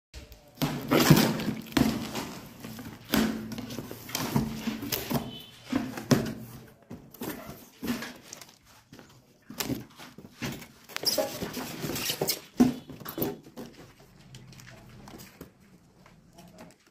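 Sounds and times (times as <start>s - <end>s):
cardboard rustling and scraping: 0.5s - 16.9s.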